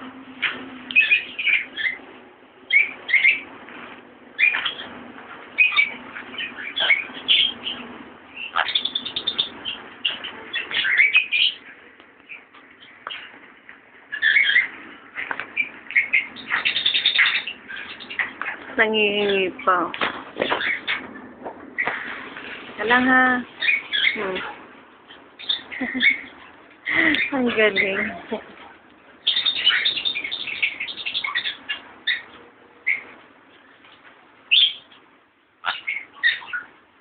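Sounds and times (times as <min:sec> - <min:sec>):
parrot chirping: 0:00.4 - 0:03.6, 0:04.3 - 0:33.8, 0:34.5 - 0:35.0, 0:35.6 - 0:36.8.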